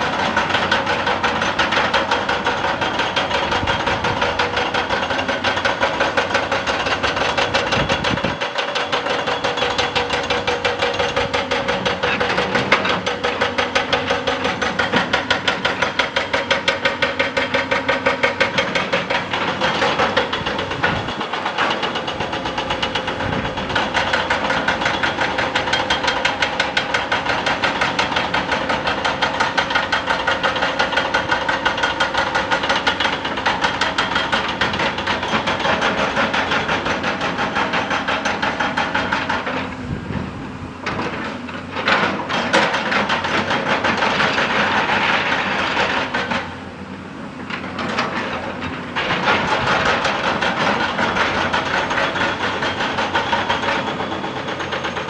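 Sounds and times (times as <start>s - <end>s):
hydraulic rock breaker hammering: 0.0s - 55.0s.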